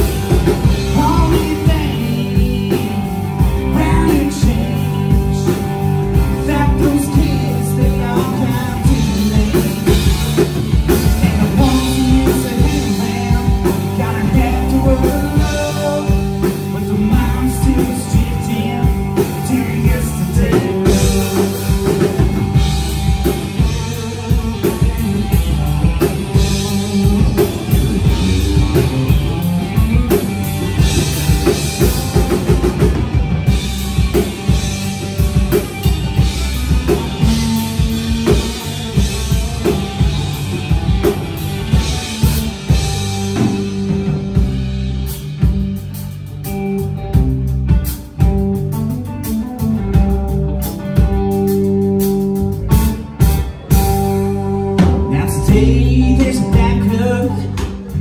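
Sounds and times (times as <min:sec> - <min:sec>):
country-rock band playing: 0:00.0 - 0:58.0
drum kit steady beat: 0:00.0 - 0:58.0.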